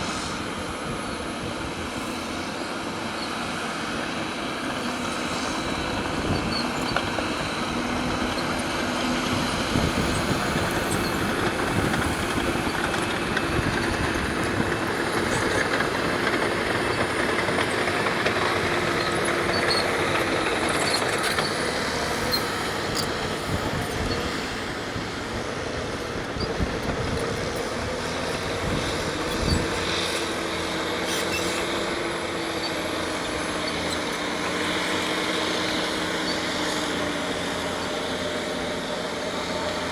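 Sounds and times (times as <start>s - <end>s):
bulldozer diesel engine under load: 0.0s - 39.9s
machinery noise: 0.0s - 39.9s.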